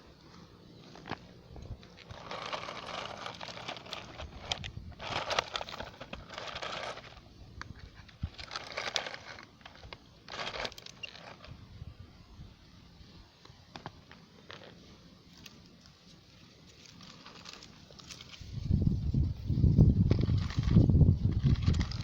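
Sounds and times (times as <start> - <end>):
soil scraped and poured: 0.8 - 11.6, 13.7 - 22.0.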